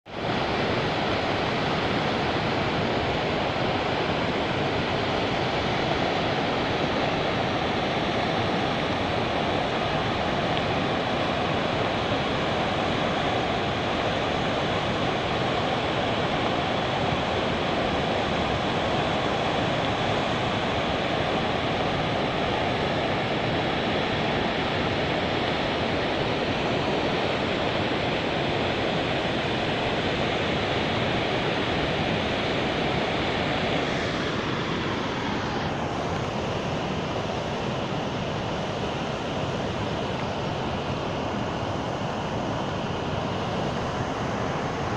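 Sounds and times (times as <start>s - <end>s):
river rushing: 0.1s - 44.9s.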